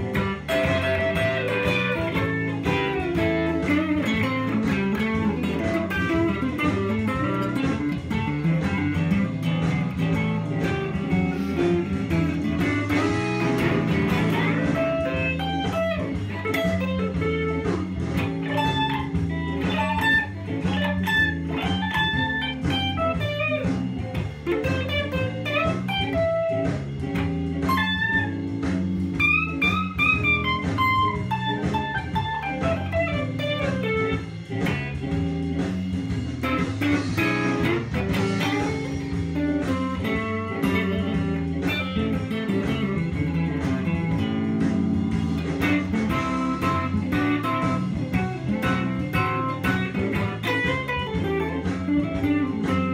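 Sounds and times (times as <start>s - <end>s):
electric guitar blues lead: 0.0s - 52.9s.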